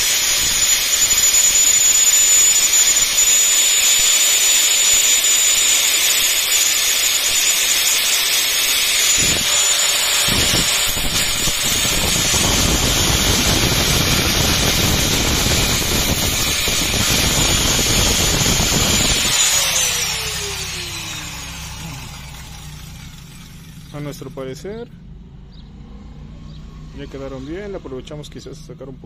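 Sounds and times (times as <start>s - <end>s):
metal grinding on abrasive disc: 0.0s - 24.0s
angle grinder whining: 0.0s - 24.4s.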